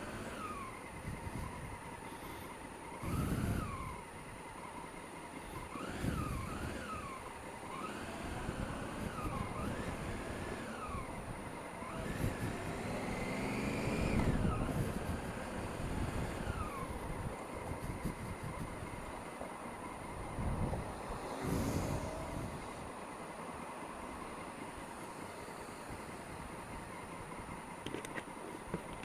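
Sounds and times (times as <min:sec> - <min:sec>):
motorcycle engine revving: 0:00.0 - 0:28.3.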